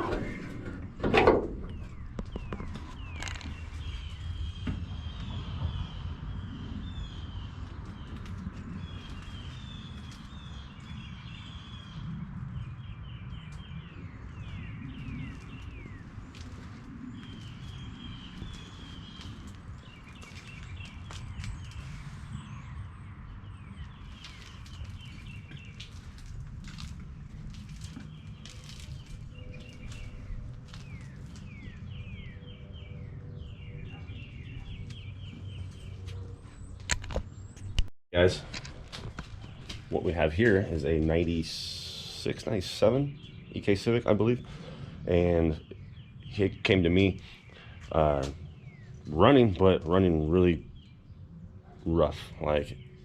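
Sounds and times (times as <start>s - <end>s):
birds chirping: 0.0s - 53.0s
steady low rumble: 0.0s - 53.0s.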